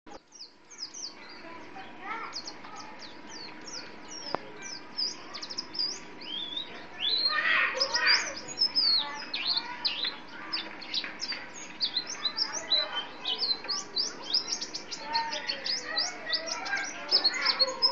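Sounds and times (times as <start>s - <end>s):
songbird singing high chirps: 0.1s - 17.9s.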